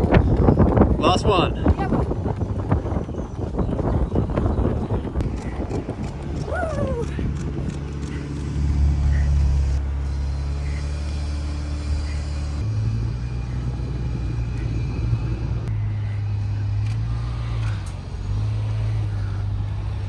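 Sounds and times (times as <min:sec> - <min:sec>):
vehicle engine running: 0:00.0 - 0:20.0
wind and road noise: 0:00.0 - 0:20.0.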